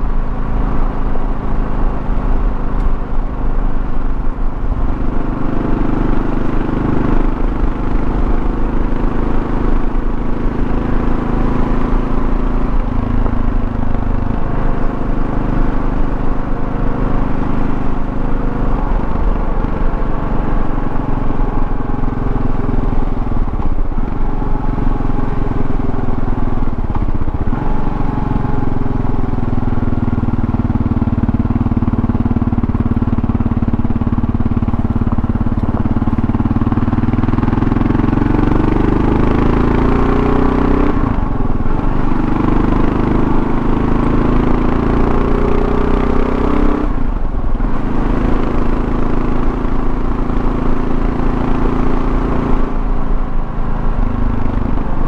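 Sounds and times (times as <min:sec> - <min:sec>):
motorcycle engine running: 0:00.0 - 0:55.0
road rumble: 0:00.0 - 0:55.0
wind: 0:00.0 - 0:55.0.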